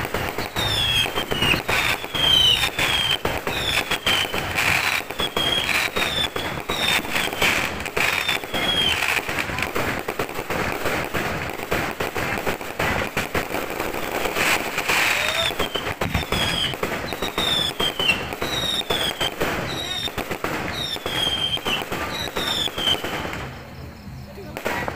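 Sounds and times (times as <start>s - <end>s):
falling firework whistles: 0.0s - 23.7s
firecrackers banging and popping: 0.0s - 24.9s.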